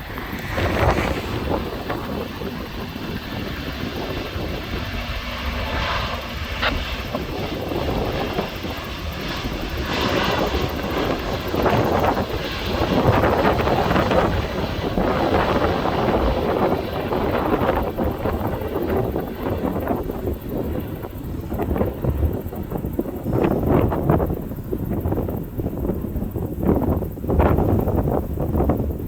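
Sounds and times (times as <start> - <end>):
jet engines at take-off thrust: 0.0 - 29.0.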